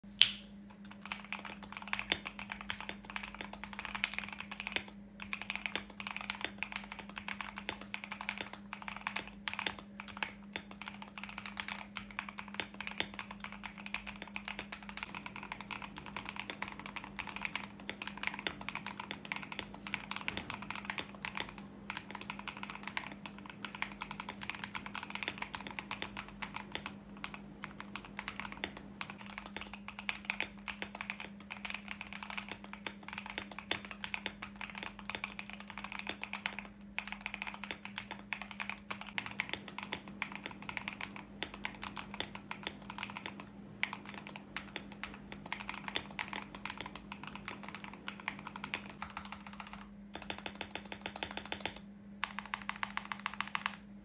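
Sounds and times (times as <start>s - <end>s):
low hum: 0.0s - 54.0s
mechanical keyboard typing: 0.8s - 53.8s.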